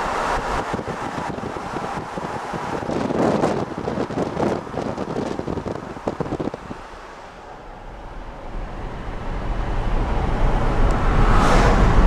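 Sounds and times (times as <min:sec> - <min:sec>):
engine and road rumble: 0:00.0 - 0:12.0
wind buffeting at car window: 0:00.0 - 0:12.0.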